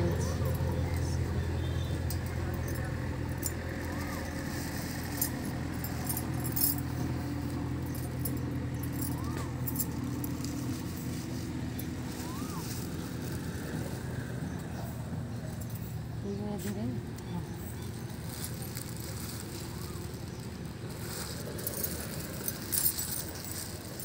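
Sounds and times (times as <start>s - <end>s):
light metallic clinks and jingles: 0.0s - 24.0s
low mechanical hum: 0.0s - 24.0s.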